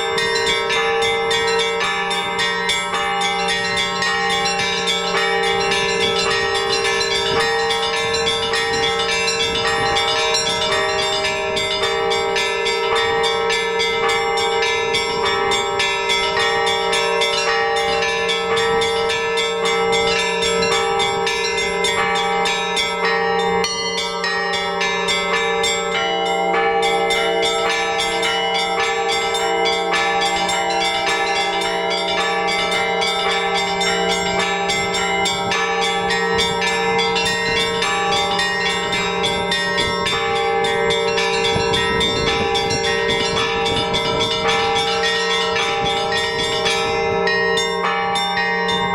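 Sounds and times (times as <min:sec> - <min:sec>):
hum of large bells: 0:00.0 - 0:48.9
small church bells ringing rapidly: 0:00.0 - 0:48.9.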